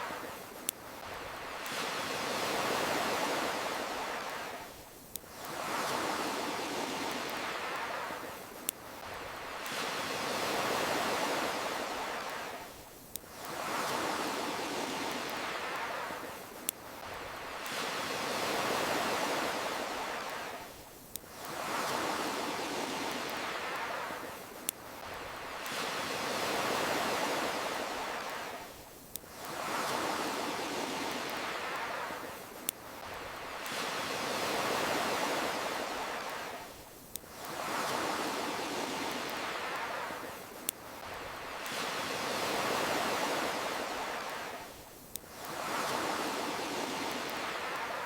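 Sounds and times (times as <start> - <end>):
campfire crackle: 0.0 - 48.0
ocean waves: 0.0 - 48.0.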